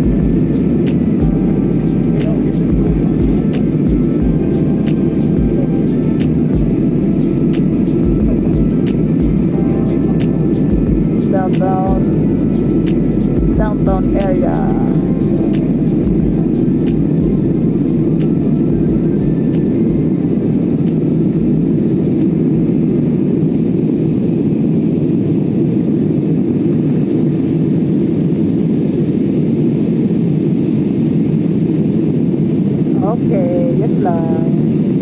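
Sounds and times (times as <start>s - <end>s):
airplane cabin rumble: 0.0s - 35.0s.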